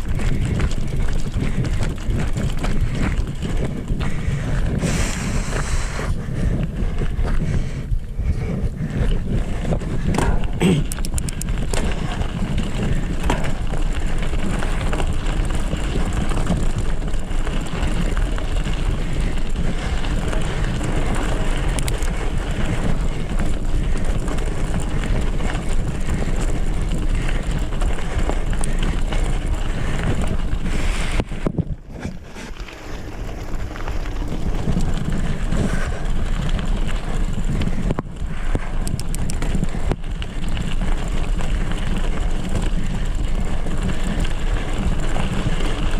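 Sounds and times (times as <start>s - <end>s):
mountain bike rattle and tyre noise: 0.0s - 45.9s
wind buffeting microphone: 0.0s - 45.9s.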